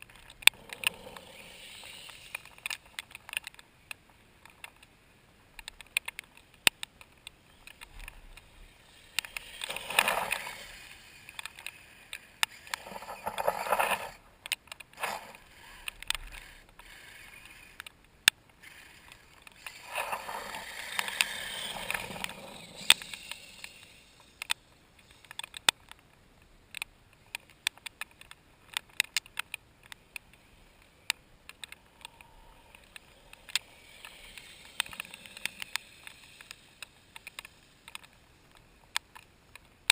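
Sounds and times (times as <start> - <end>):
electric drive and tracks whirring: 0.0 - 39.9
sharp clicks and ticks: 0.0 - 39.9.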